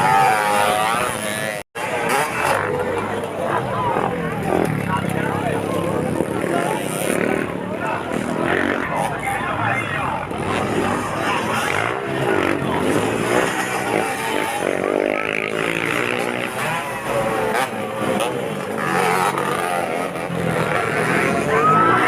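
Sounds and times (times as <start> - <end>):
dirt bike engines revving: 0.0 - 22.0
voices: 0.0 - 22.0.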